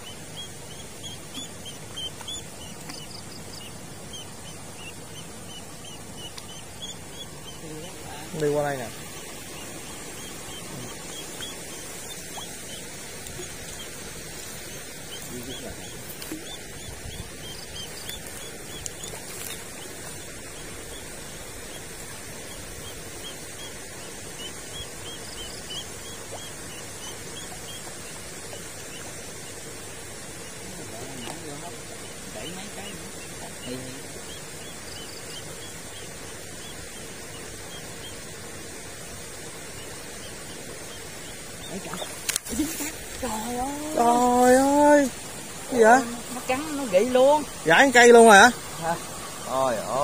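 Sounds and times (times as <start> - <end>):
duckling peeping: 0.0 - 38.4, 39.4 - 49.8
animals chirping: 0.0 - 50.0
steady background hiss: 0.0 - 50.0.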